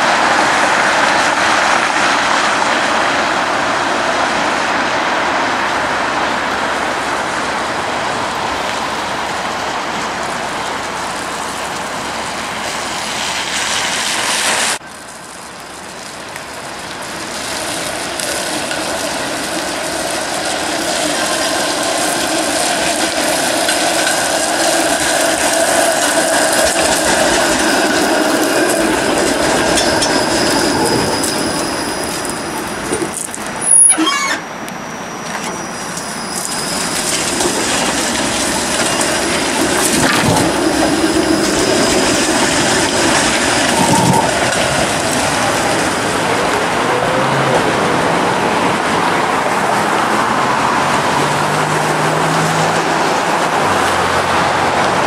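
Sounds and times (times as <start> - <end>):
streetcar rumbling past: 0.0 - 55.0.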